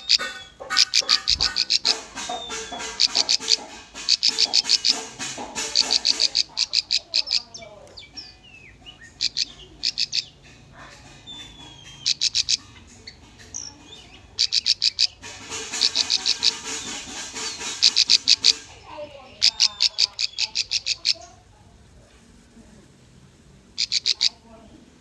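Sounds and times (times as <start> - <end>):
soft bird chirps: 0.0 - 5.1, 5.7 - 21.4
bird song with rapid sharp notes: 0.0 - 21.4.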